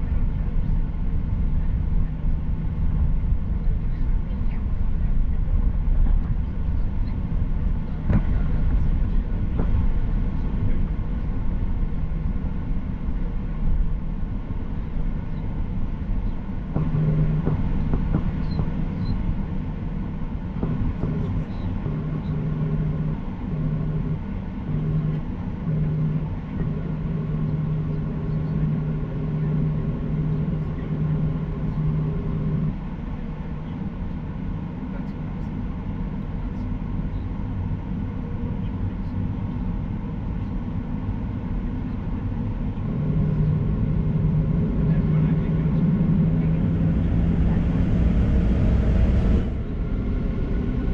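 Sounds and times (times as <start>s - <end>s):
jet engine cabin rumble: 0.0s - 50.9s
low wavering hum: 0.0s - 50.9s.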